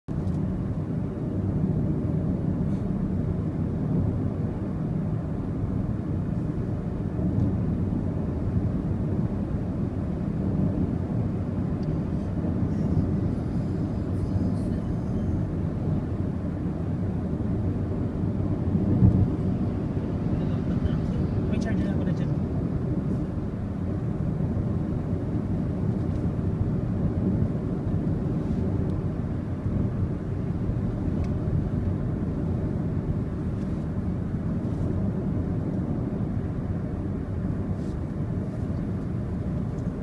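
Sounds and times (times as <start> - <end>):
car road and engine rumble: 0.1 - 40.0.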